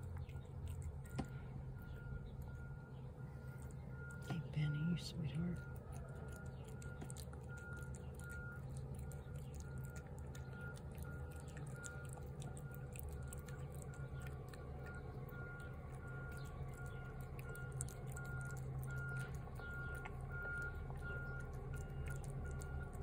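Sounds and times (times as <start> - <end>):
cat chewing wet food: 0.0 - 23.0
truck backup alarm beeping: 0.0 - 23.0
truck engine hum: 0.0 - 23.0.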